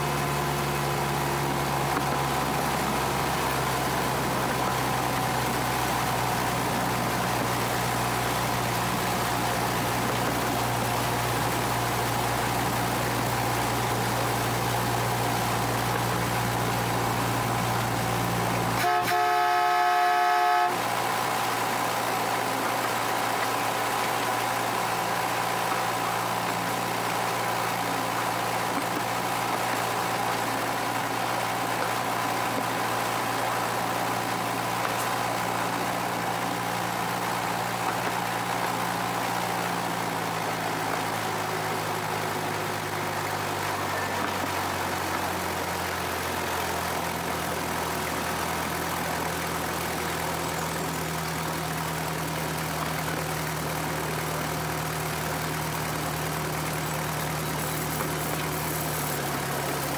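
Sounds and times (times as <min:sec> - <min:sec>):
locomotive engine running: 0:00.0 - 0:59.9.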